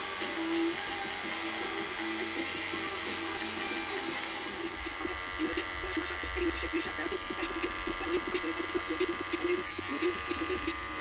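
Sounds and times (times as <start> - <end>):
electric hair clippers buzzing: 0.0 - 11.0.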